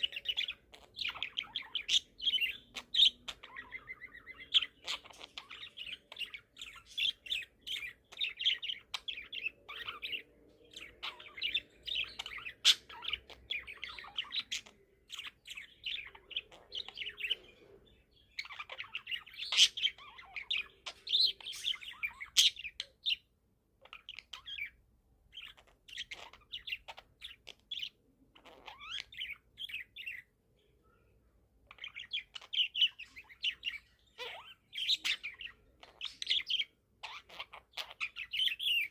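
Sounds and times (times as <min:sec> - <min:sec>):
budgie chirping and warbling: 0:00.0 - 0:30.3, 0:31.6 - 0:38.9.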